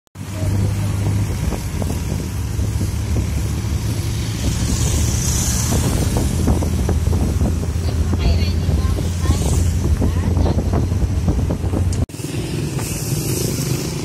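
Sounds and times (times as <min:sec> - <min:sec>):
bus engine humming: 0:00.2 - 0:14.0
road noise: 0:00.2 - 0:14.0.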